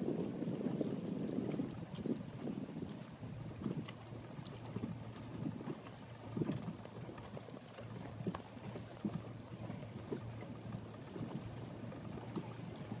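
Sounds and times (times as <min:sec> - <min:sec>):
water slapping against hull: 0:00.0 - 0:13.0
wind on microphone: 0:00.0 - 0:13.0.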